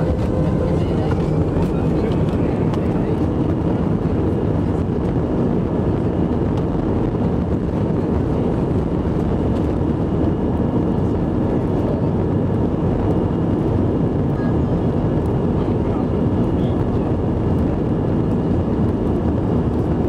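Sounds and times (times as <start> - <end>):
airframe rumble: 0.0 - 20.0
jet engines at takeoff thrust: 0.0 - 20.0.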